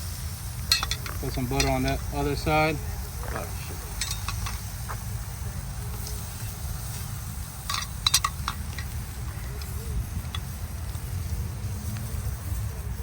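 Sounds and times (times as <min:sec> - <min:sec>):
crackles: 0:00.0 - 0:13.0
meat sizzling on grill: 0:00.0 - 0:13.0.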